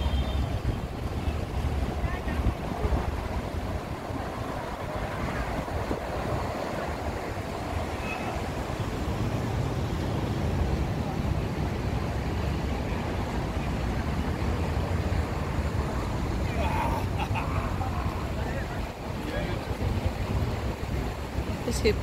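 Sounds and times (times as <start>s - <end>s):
city street traffic: 0.0s - 22.0s
wind rumbling on microphone: 0.0s - 22.0s.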